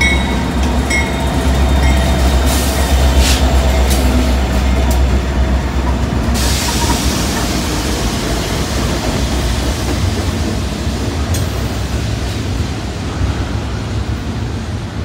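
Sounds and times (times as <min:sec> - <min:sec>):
diesel locomotive engine rumble: 0:00.0 - 0:15.0
steel wheels rushing on rails: 0:00.0 - 0:15.0.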